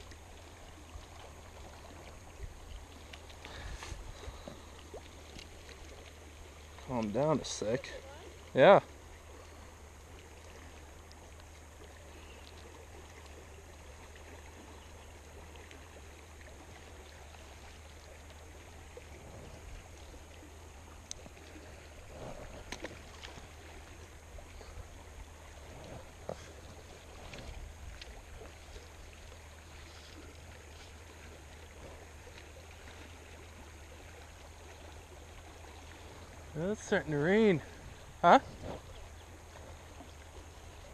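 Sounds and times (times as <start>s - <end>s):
creek running over riffles: 0.0s - 40.9s.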